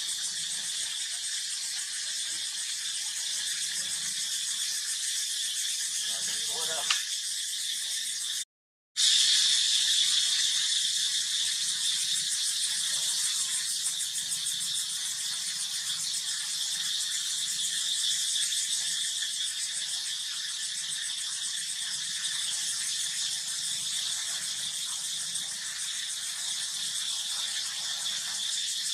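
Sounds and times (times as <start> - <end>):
insect chorus buzzing: 0.0 - 8.4, 9.0 - 28.9.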